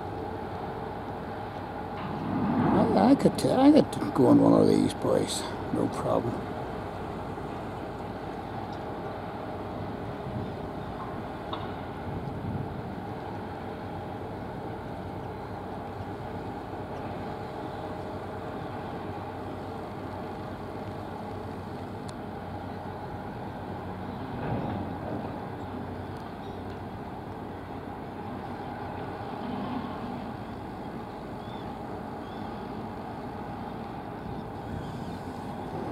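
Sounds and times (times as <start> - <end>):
distant engines rumbling: 0.2 - 35.9.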